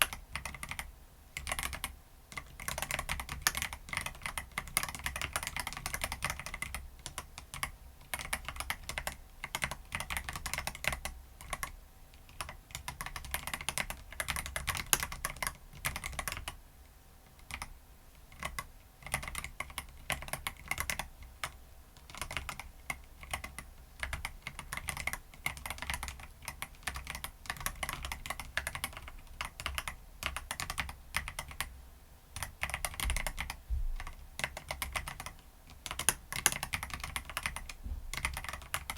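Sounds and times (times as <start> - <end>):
clicky mechanical keyboard typing: 0.0 - 16.6, 17.3 - 31.7, 32.4 - 38.9.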